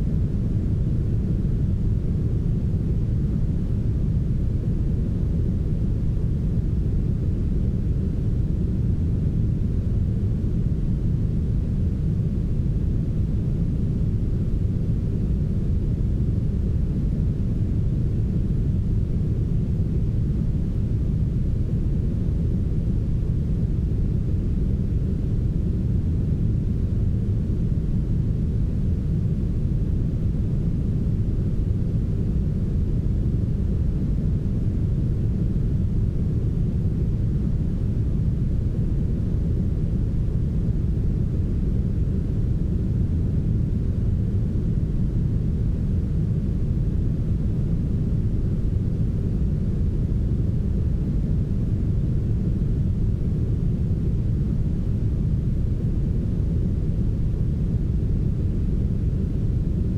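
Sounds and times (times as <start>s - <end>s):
deep brown noise hiss: 0.0s - 59.9s.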